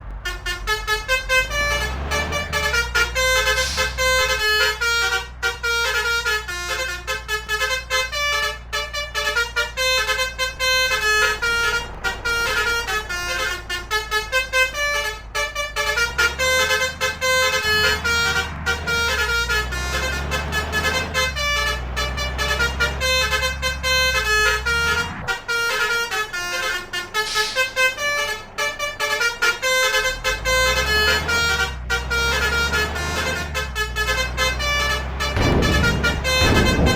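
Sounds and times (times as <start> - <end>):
bus horns playing melodic runs: 0.0 - 36.9
low rumble of road traffic: 0.0 - 36.9.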